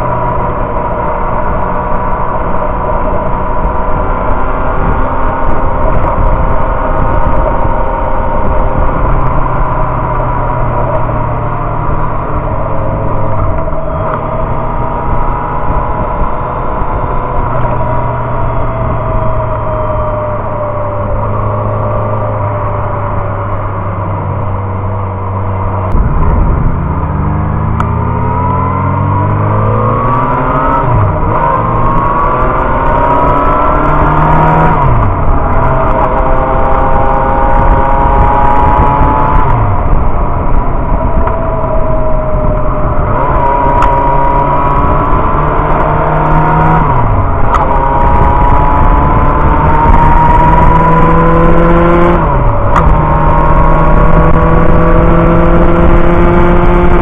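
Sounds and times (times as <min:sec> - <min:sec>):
motorcycle engine: 0:00.0 - 0:57.0
wind rush: 0:00.0 - 0:57.0.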